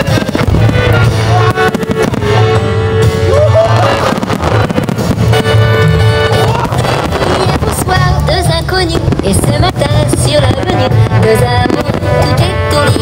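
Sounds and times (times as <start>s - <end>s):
firework bursts: 0.0s - 13.0s
loud pop music: 0.0s - 13.0s.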